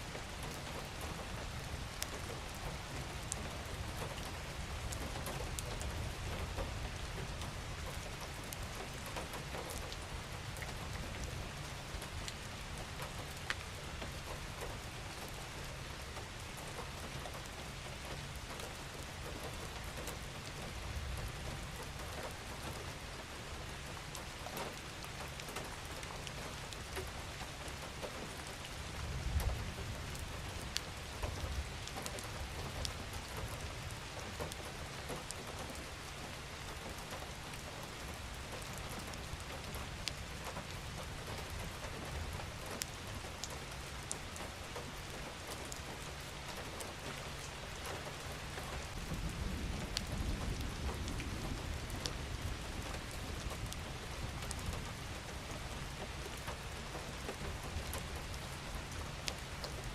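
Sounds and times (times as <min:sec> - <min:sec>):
rain falling: 0:00.0 - 0:59.9
raindrops ticking: 0:00.1 - 0:59.9.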